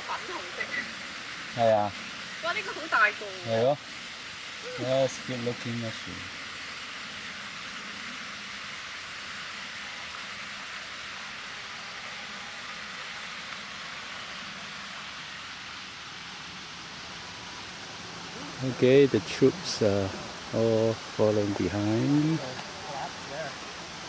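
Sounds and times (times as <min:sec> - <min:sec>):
high-pitched background hiss: 0:00.0 - 0:24.0.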